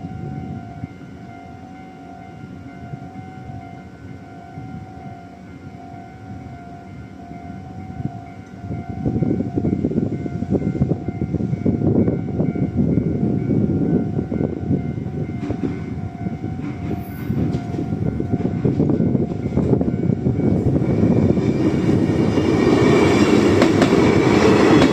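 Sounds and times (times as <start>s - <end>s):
level crossing warning signals: 0.0s - 24.9s
train rumbling past: 0.0s - 24.9s.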